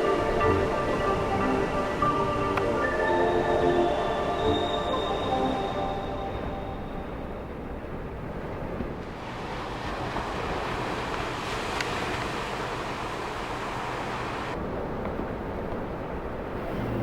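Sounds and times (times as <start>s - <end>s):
waves breaking on beach: 0.0s - 17.0s.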